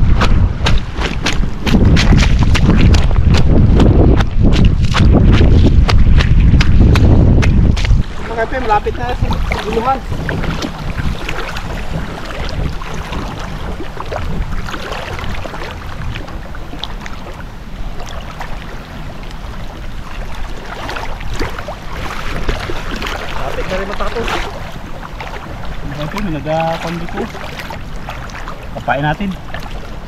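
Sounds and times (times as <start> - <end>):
water splashing and sloshing: 0.0 - 30.0
wind buffeting microphone: 0.0 - 30.0.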